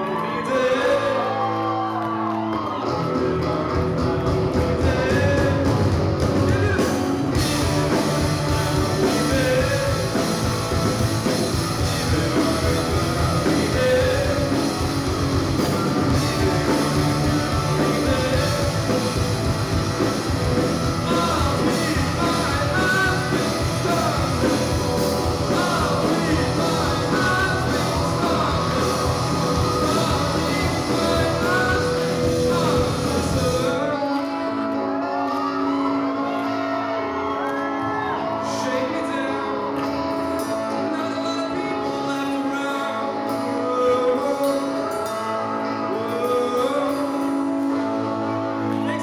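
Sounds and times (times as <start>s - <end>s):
amplified guitars: 0.0s - 49.0s
bass: 0.0s - 49.0s
drums: 0.0s - 49.0s
person singing: 0.0s - 49.0s.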